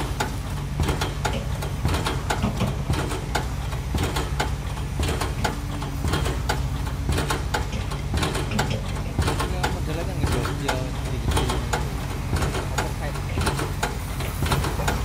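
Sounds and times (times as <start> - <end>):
diesel machinery humming: 0.0 - 15.0
rapid knocks: 0.0 - 15.0.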